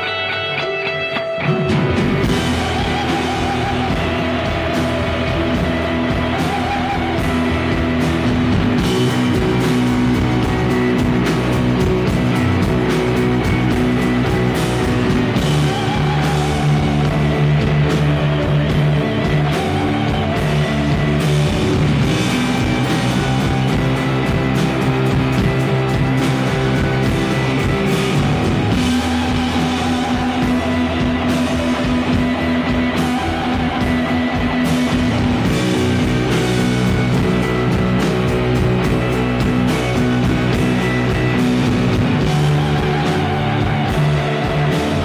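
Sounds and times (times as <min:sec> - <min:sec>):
drum kit: 0:00.0 - 0:45.0
electric guitar chords: 0:00.0 - 0:45.0.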